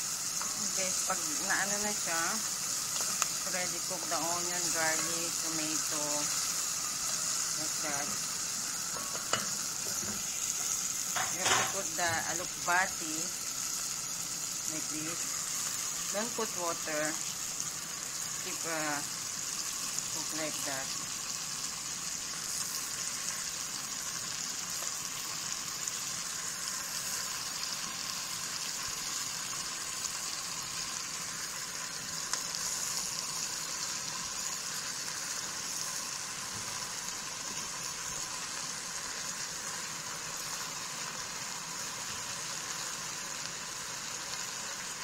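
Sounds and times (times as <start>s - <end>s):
pot sizzling and simmering: 0.0s - 45.0s.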